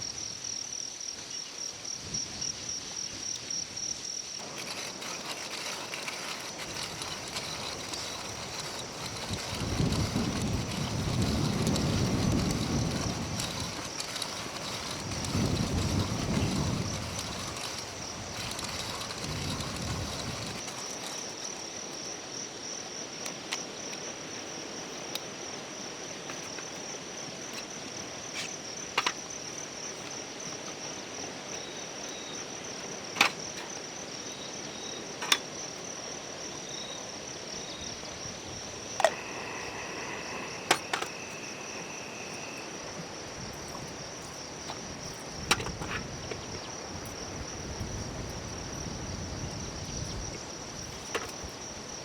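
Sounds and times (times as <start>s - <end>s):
insects chirring: 0.0s - 52.0s
lower insect tone: 0.0s - 52.0s.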